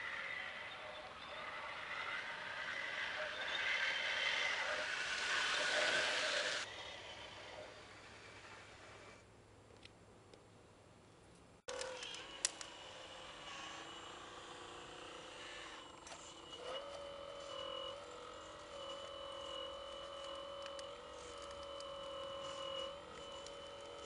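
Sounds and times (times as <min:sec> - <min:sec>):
electric motor whine: 0:00.0 - 0:09.2, 0:11.7 - 0:24.0.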